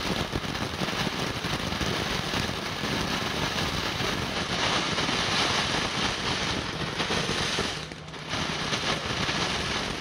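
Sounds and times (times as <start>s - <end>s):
firework fountain spraying sparks: 0.0s - 10.0s.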